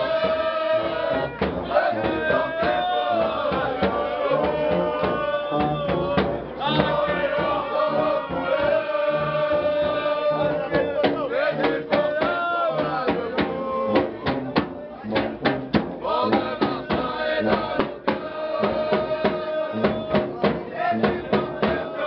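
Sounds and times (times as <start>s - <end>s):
brass band playing: 0.0s - 22.0s
crowd of men singing: 0.0s - 22.0s
drum beating time: 0.0s - 22.0s.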